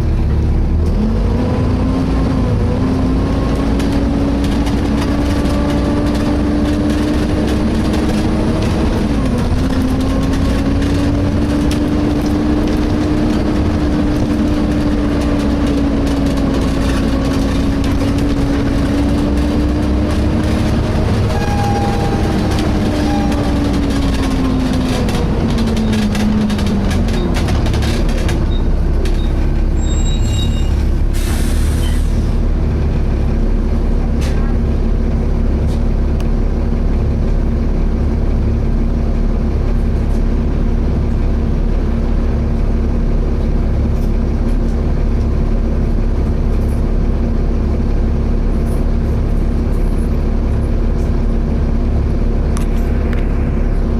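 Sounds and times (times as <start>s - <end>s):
bus engine and road noise: 0.0s - 53.9s.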